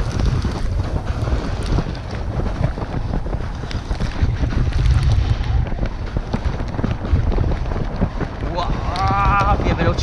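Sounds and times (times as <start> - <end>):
sled runners scraping snow: 0.0 - 10.0
wind buffeting microphone: 0.0 - 10.0.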